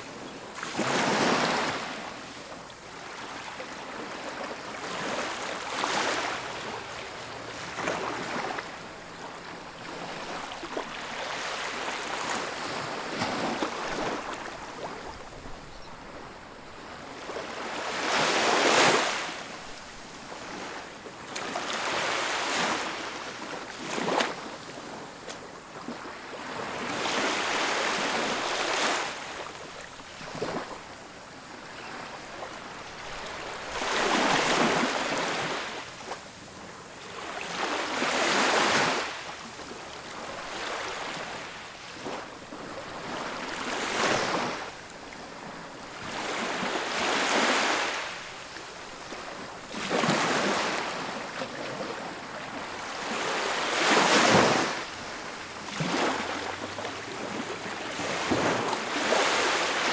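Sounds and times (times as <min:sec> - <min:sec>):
ocean surf breaking on beach: 0:00.0 - 0:59.9.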